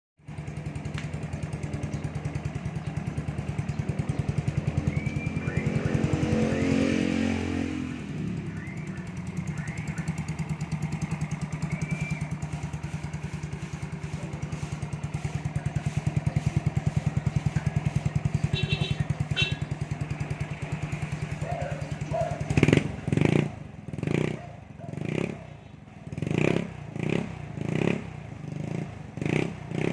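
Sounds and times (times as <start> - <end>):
scooter engine idling and revving: 0.2 - 29.9.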